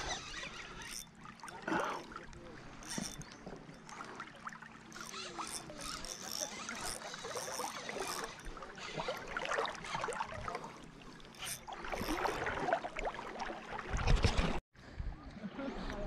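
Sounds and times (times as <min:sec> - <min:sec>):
sea water lapping and splashing: 0:00.0 - 0:14.6.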